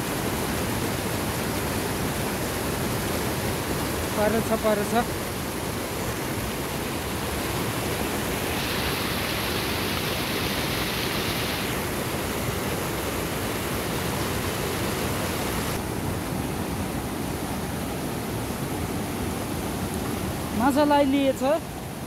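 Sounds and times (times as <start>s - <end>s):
stream rushing over boulders: 0.0s - 22.0s.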